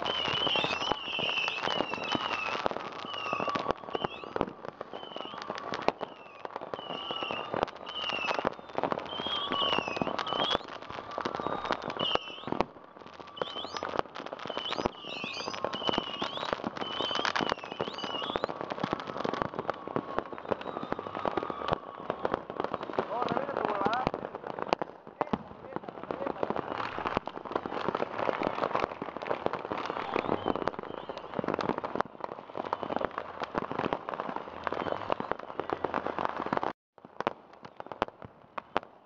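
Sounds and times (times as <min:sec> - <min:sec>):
warbling firework whistles: 0:00.0 - 0:24.8, 0:26.2 - 0:36.6
firecrackers banging and crackling: 0:00.0 - 0:39.0.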